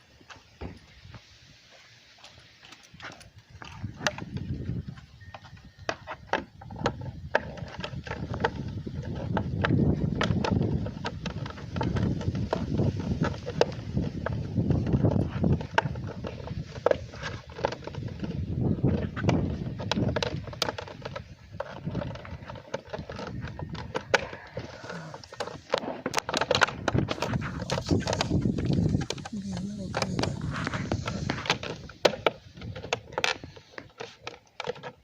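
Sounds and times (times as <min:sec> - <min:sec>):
plastic parts clicking and knocking: 0:05.4 - 0:35.0.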